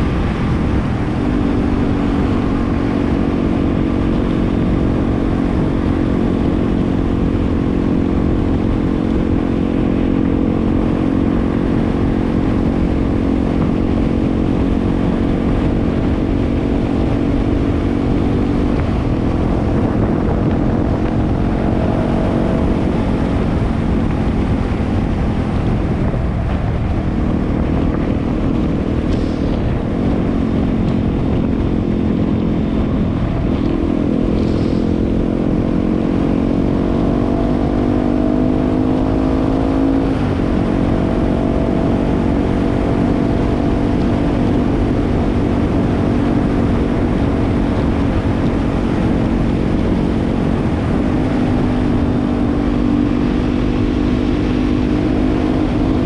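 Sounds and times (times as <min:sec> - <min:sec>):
steady low noise: 0:00.0 - 0:45.8
motorcycle engine running: 0:00.0 - 0:56.0.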